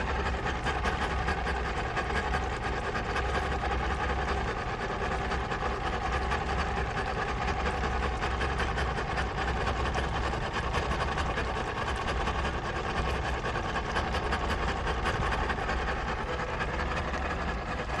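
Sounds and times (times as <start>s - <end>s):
engine idling roughly: 0.0s - 18.0s.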